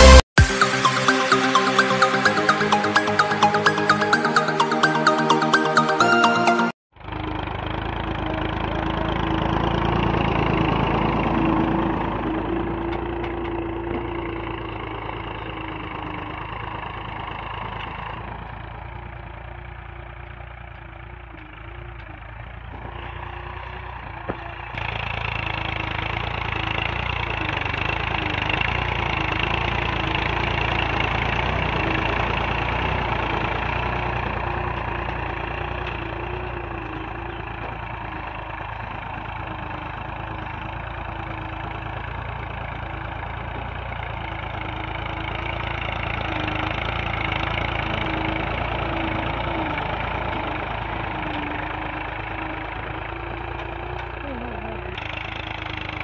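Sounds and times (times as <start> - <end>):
tractor diesel engine under load: 0.0 - 5.7, 6.3 - 56.0.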